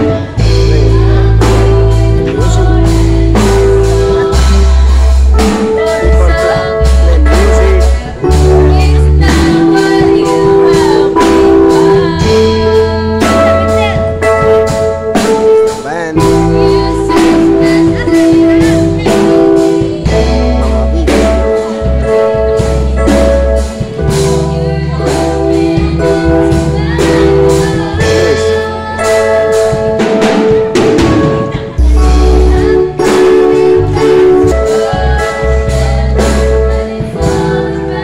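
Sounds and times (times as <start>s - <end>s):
person singing: 0.0s - 14.9s, 15.6s - 38.0s
deep bass line: 0.0s - 30.1s, 30.8s - 38.0s
drum kit steady beat: 0.0s - 38.0s
keyboard playing sustained chords: 0.0s - 38.0s.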